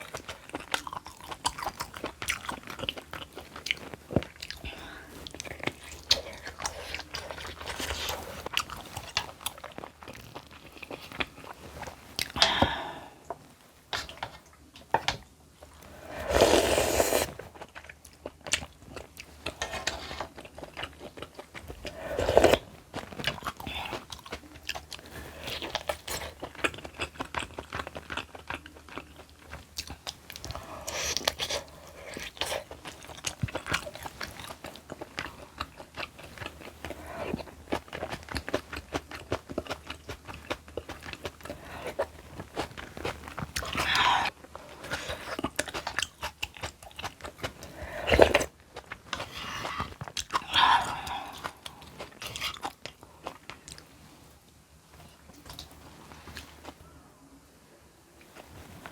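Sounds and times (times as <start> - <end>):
chewing and crunching food: 0.0 - 56.8.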